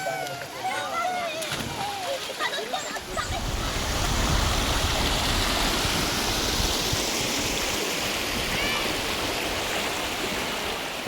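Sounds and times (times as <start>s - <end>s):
flowing water rushing: 0.0s - 11.0s.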